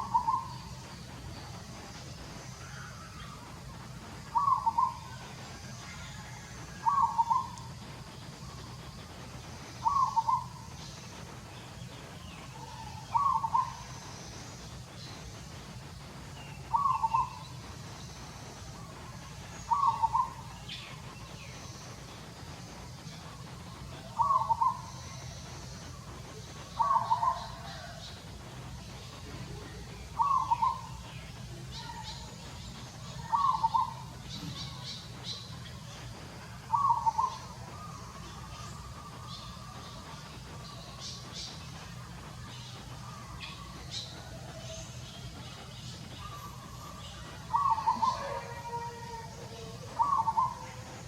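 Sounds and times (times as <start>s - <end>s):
bird calling: 0.0s - 15.4s, 16.4s - 22.2s, 22.8s - 51.0s
low background hum: 0.0s - 51.0s.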